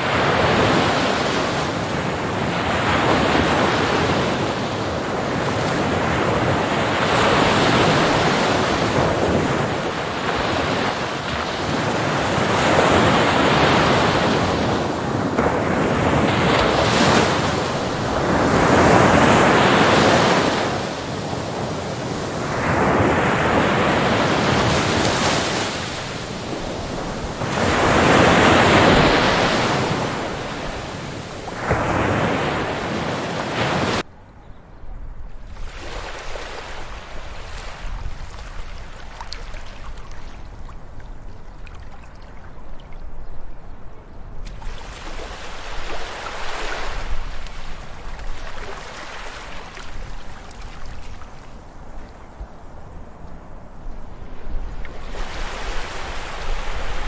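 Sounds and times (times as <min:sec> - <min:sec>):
ocean waves breaking: 0:00.0 - 0:34.0, 0:35.5 - 0:43.0, 0:44.4 - 0:57.0.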